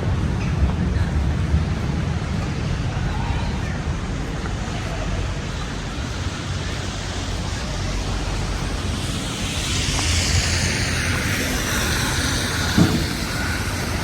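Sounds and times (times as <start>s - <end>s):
city street rumble: 0.0s - 14.0s
vehicle approaching: 0.0s - 14.0s.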